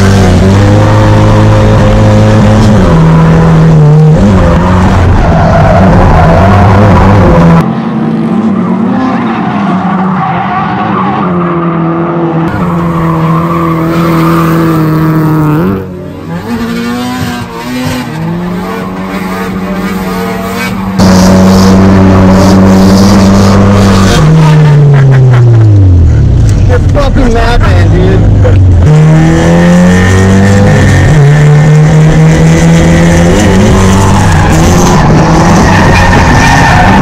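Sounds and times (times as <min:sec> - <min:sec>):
car engines at high revs: 0:00.0 - 0:37.0.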